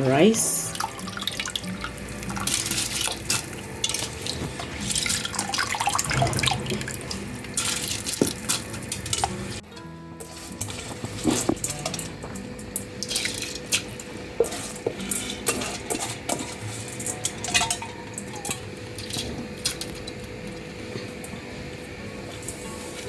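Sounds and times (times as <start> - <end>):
boiling water: 0.0 - 23.0.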